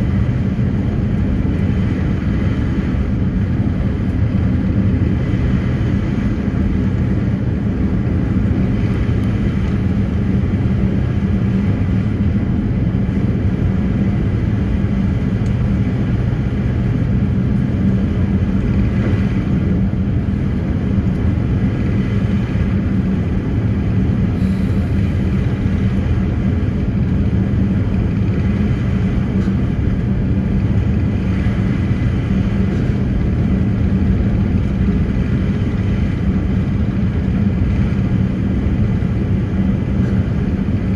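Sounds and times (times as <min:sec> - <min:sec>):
ferry engines droning: 0:00.0 - 0:40.9.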